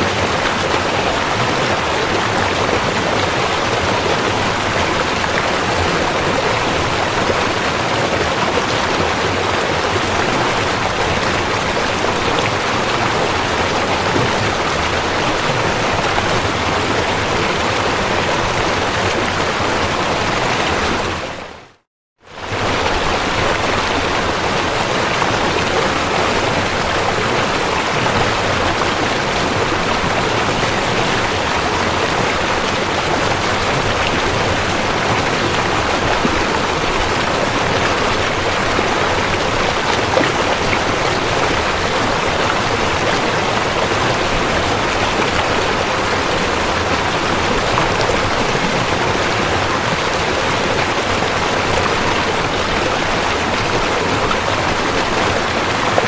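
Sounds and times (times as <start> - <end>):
river water rushing: 0.0 - 21.6, 22.3 - 56.0.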